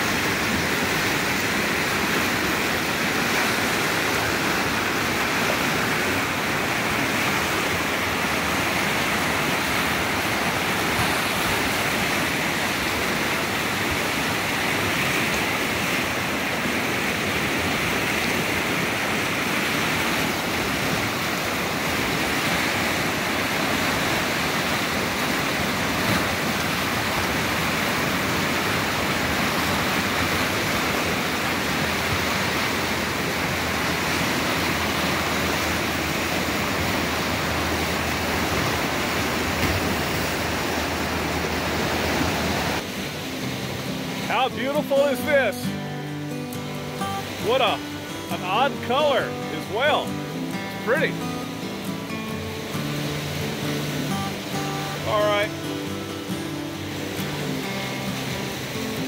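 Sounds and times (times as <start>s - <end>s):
river rushing through rapids: 0.0s - 59.0s.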